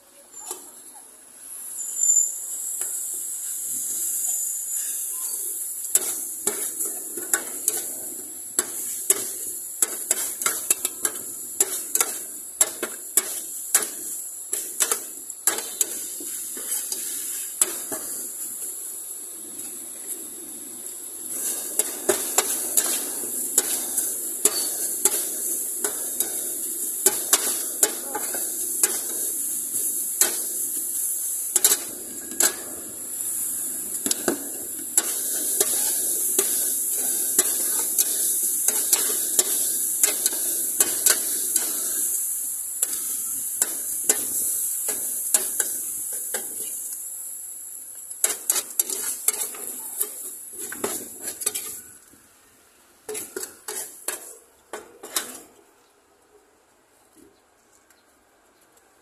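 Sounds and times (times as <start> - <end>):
stir-fry sizzle: 2.5 - 52.1, 53.0 - 55.5.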